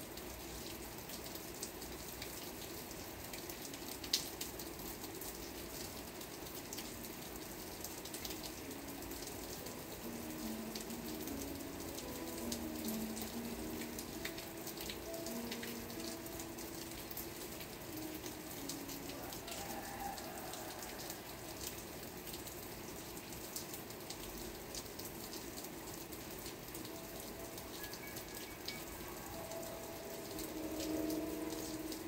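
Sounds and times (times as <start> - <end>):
raindrops ticking on a surface: 0.0 - 32.0
steady rain: 0.0 - 32.0.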